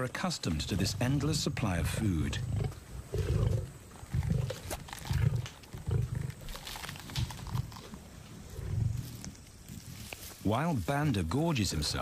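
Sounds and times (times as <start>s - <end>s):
lions growling: 0.4s - 10.1s.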